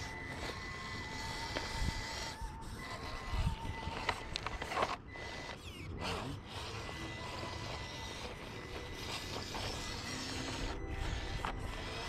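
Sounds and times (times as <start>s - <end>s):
electric motor whirring: 0.0s - 12.0s
tires grinding on stone: 0.0s - 12.0s.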